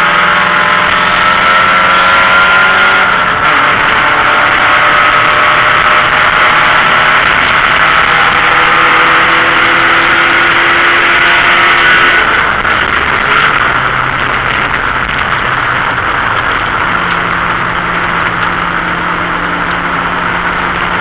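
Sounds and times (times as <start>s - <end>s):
race car engine under load: 0.0s - 21.0s
wind and road noise: 0.0s - 21.0s.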